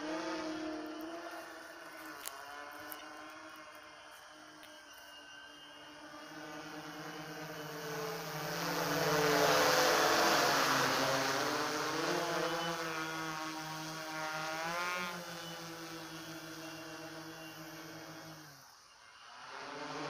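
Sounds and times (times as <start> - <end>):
drone propeller hum: 0.0 - 20.0.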